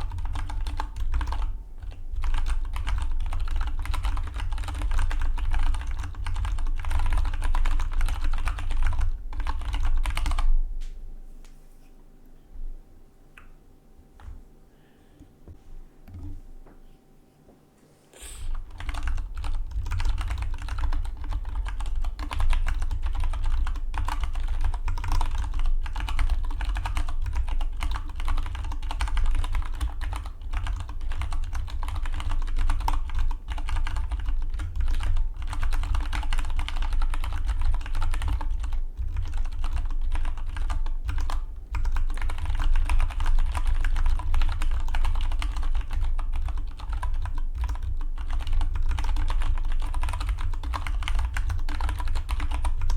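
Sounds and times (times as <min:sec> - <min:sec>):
mechanical keyboard typing: 0:00.0 - 0:10.5, 0:18.6 - 0:52.9.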